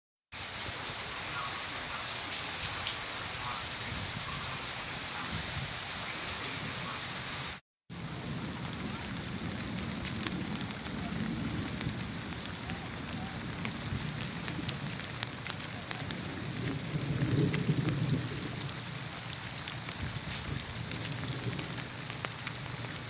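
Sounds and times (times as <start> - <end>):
steady rain falling: 0.3 - 23.0.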